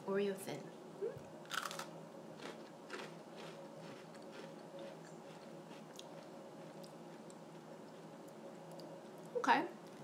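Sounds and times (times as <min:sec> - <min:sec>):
cookie crunching while chewing: 0:01.5 - 0:10.0.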